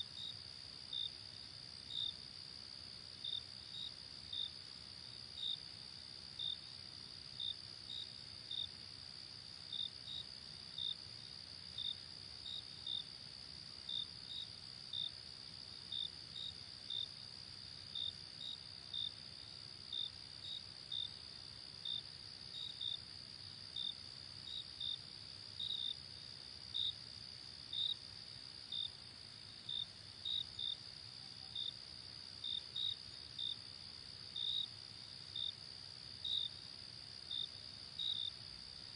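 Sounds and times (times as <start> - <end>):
crickets chirping: 0.0 - 38.9
faint low background hiss: 0.0 - 38.9.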